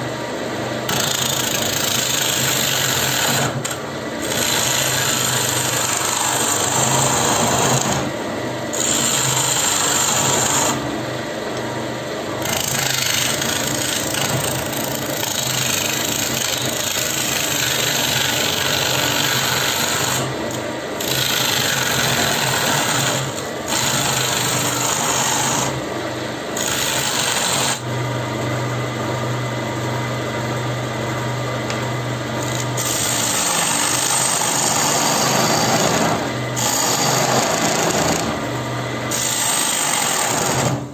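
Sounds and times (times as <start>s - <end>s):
lathe motor hum: 0.0s - 40.8s
lathe tool scraping wood: 0.9s - 8.1s, 8.7s - 10.9s, 12.4s - 25.9s, 26.6s - 27.9s, 32.4s - 40.8s.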